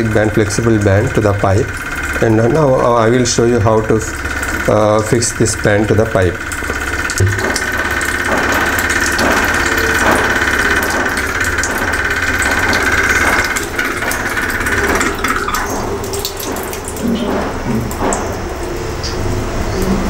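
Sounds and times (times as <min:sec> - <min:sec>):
water tap buzzing: 0:00.0 - 0:20.0.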